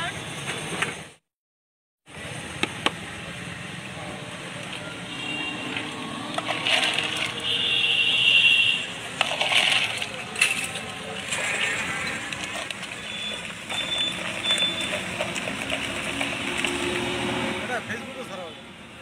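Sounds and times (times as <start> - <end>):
street noise: 0.0 - 1.2, 2.0 - 19.0.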